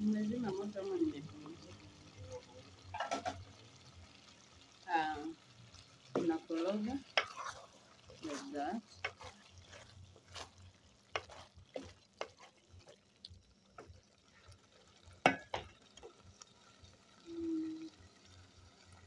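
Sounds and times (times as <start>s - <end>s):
wooden spoon stirring in metal pot: 0.2s - 17.1s.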